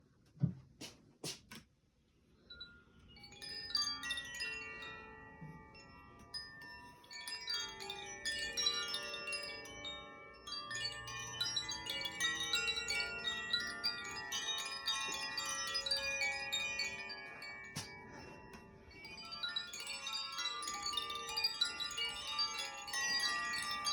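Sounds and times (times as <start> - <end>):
chime ringing: 2.9 - 23.9.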